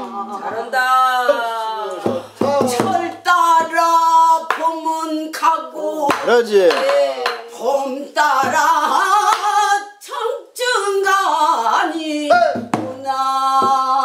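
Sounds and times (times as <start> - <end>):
folk singing with wavering notes: 0.0 - 14.0.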